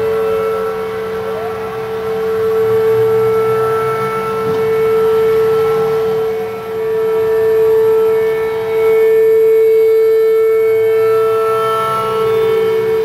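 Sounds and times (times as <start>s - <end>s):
warning siren steady tone: 0.0s - 13.0s.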